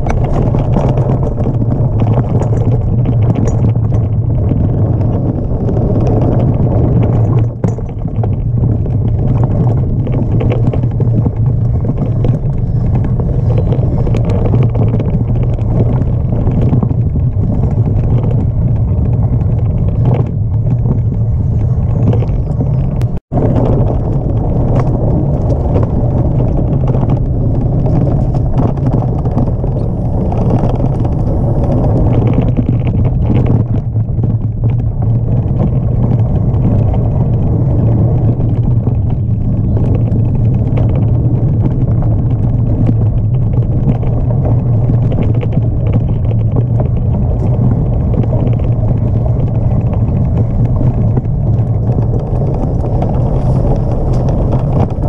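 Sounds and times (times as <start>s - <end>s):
bike rattles and knocks: 0.0s - 55.0s
rumble of tyres and wind: 0.0s - 55.0s.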